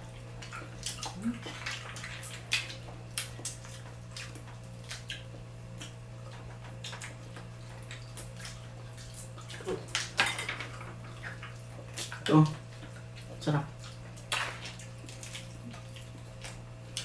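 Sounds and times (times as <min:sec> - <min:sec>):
steady low hum: 0:00.0 - 0:17.0
wet eating sounds: 0:00.0 - 0:17.0
clicks and crackles of seafood: 0:00.2 - 0:17.0.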